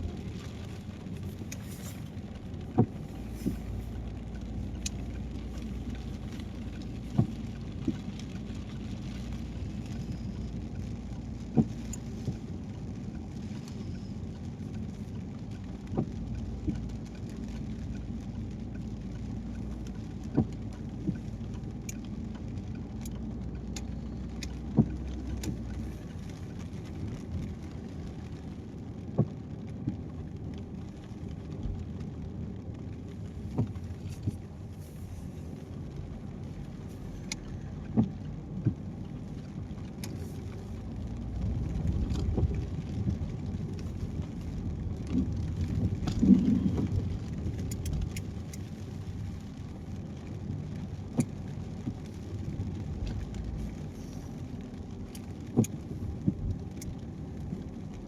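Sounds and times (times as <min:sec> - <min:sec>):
windscreen wipers knocking: 0:00.0 - 0:09.1, 0:11.4 - 0:13.3, 0:15.4 - 0:53.9, 0:54.8 - 0:58.0
road and tyre noise in rain: 0:00.0 - 0:58.0.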